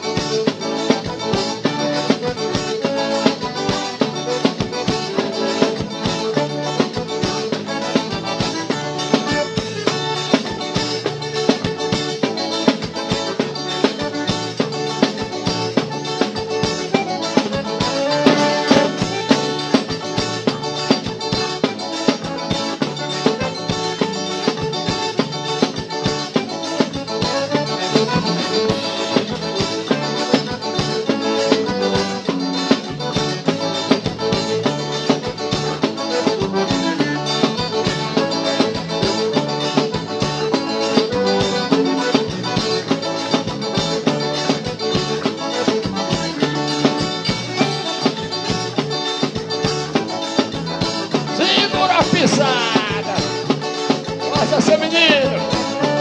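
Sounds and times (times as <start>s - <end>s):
accordion: 0.0s - 56.0s
plucked guitar: 0.0s - 56.0s
steady drum beat: 0.0s - 56.0s.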